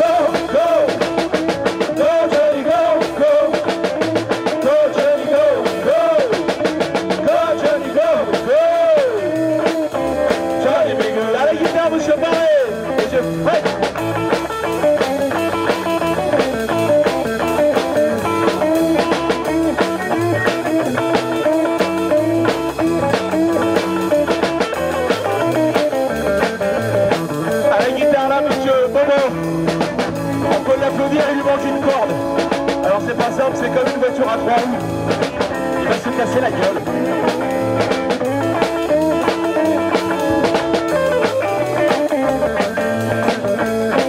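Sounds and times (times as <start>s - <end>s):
bending electric guitar lead: 0.0s - 44.0s
rock band playing: 0.0s - 44.0s.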